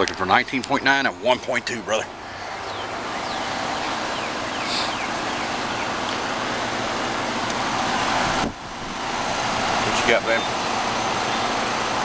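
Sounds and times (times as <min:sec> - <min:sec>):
air conditioner unit running: 0:00.0 - 0:12.0.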